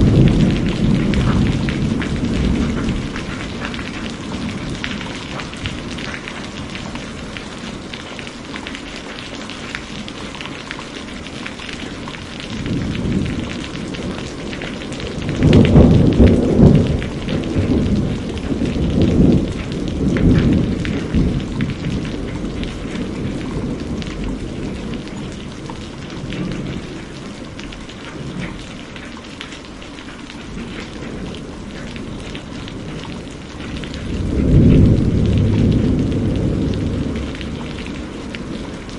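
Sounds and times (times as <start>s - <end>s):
thunder rumbling: 0.0s - 29.2s, 30.1s - 38.9s
steady rain falling: 0.0s - 38.9s.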